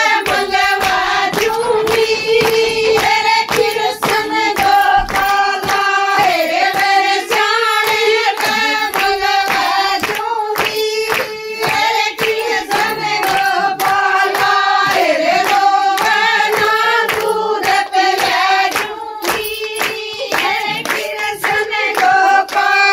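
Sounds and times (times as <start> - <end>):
rhythmic hand-clapping: 0.0 - 22.9
women singing together: 0.0 - 22.9.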